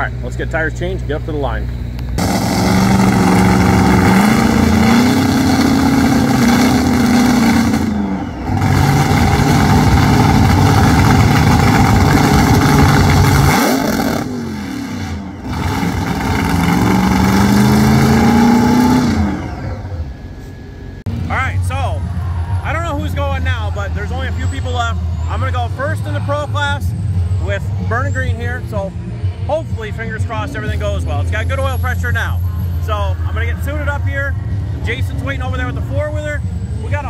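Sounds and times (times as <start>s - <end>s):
car engine revving: 0.0s - 33.2s.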